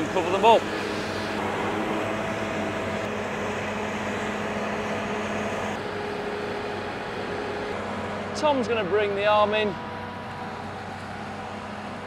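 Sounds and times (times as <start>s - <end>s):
combine harvester machinery hum: 0.0s - 12.0s.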